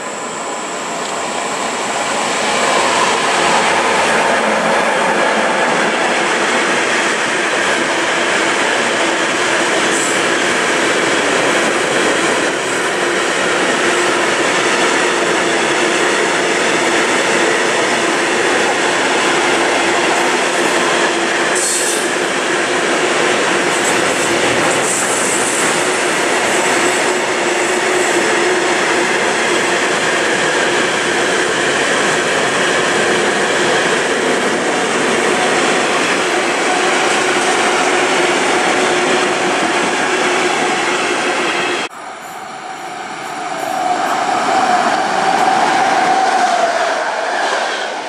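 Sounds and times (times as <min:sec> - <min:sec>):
electric train whine: 0:00.0 - 0:48.0
freight train wheels rumbling: 0:00.0 - 0:48.0
passenger train approaching: 0:00.0 - 0:48.0.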